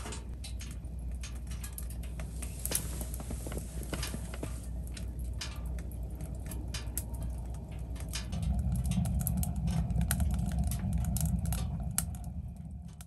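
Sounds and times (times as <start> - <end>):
burning wood crackling: 0.0 - 13.0
low rumble: 0.0 - 13.0.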